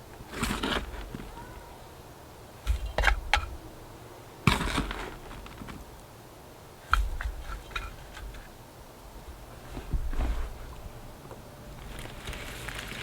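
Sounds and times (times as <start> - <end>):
plastic pots and soil rustling: 0.0 - 2.0, 2.6 - 3.6, 4.4 - 6.2, 6.8 - 13.0.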